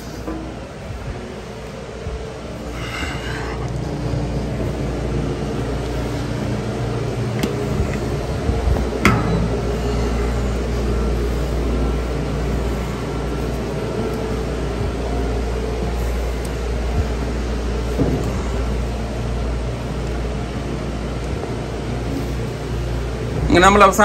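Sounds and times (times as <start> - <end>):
ship machinery drone: 0.0 - 24.0.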